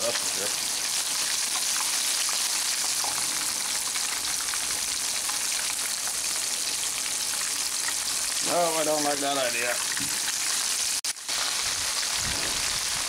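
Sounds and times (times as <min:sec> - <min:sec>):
deep-frying sizzle with crackling: 0:00.0 - 0:13.0.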